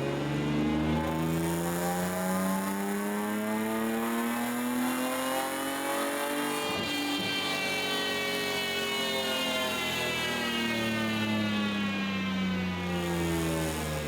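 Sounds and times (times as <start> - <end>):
race car engine accelerating: 0.0 - 11.8.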